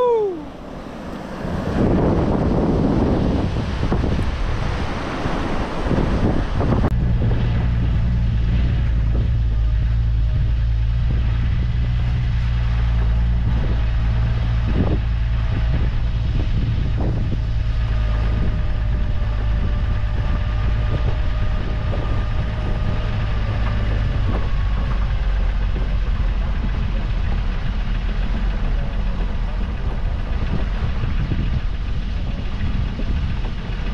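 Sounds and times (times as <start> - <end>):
engine humming: 0.0 - 33.9
wind and water noise: 0.0 - 33.9.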